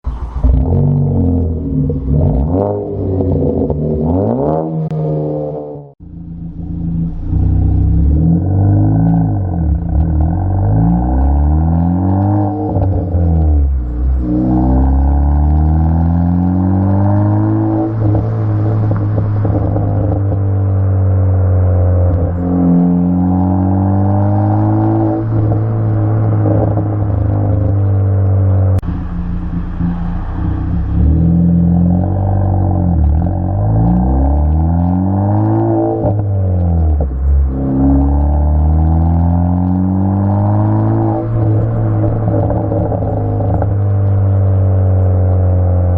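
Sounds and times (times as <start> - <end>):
car engine revving: 0.0 - 45.9
exhaust crackles and pops: 0.0 - 45.9.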